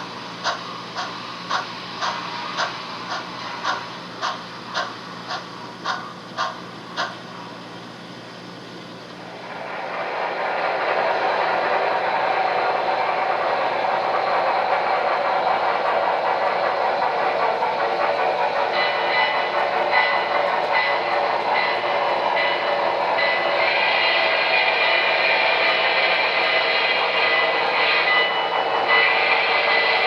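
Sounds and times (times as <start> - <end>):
model train rolling rumble: 0.0 - 30.0.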